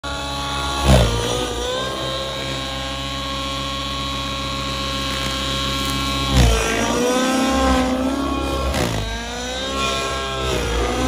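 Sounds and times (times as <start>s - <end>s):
model helicopter engine buzzing: 0.0s - 11.0s.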